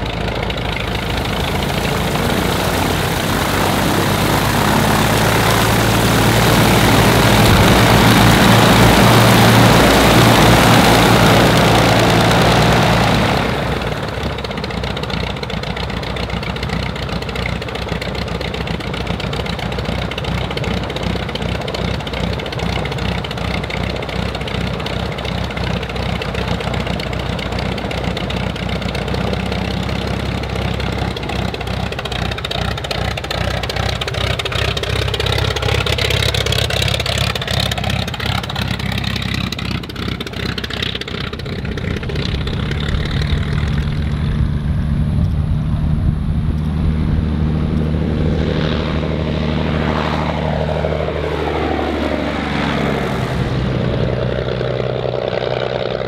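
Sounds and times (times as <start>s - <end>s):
aero engine running: 0.0s - 56.0s.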